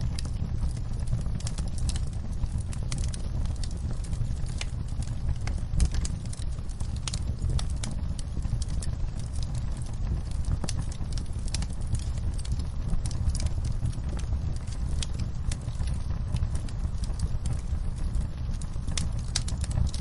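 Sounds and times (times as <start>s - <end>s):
low fire rumble: 0.0s - 20.0s
wood fire crackling: 0.0s - 20.0s
rain falling: 3.3s - 20.0s.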